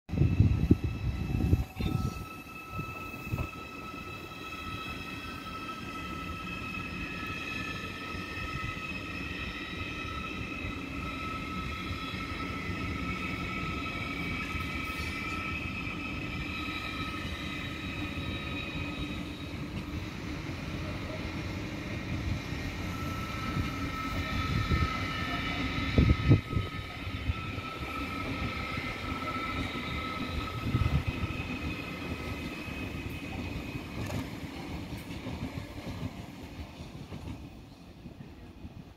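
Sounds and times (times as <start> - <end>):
high train whine: 0.1 - 38.9
train wheels rumbling on rail: 0.1 - 38.9.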